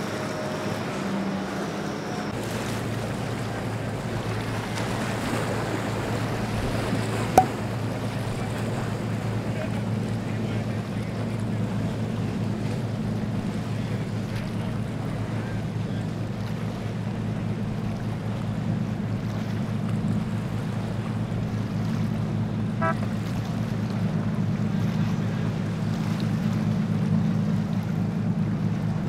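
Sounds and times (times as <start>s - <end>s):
boat wake wash: 0.0s - 29.0s
motorboat engines running: 0.0s - 29.0s.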